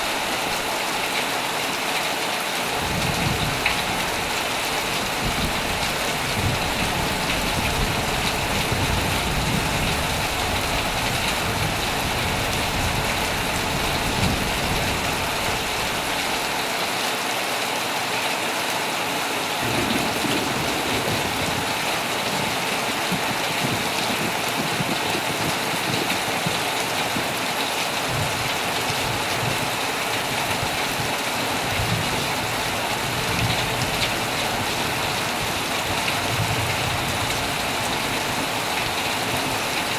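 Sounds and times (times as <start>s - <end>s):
heavy rain on tent fabric: 0.0s - 39.9s.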